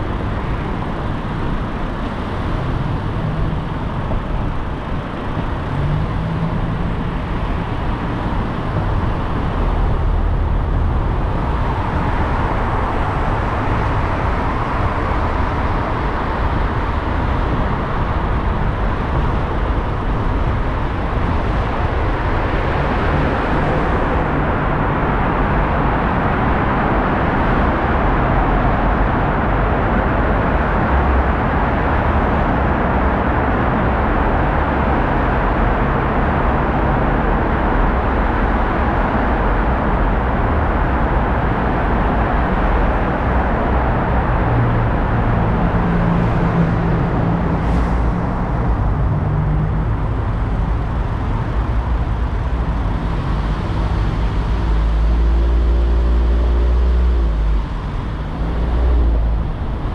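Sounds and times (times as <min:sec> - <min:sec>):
car tyre and engine hum: 0:00.0 - 0:59.9.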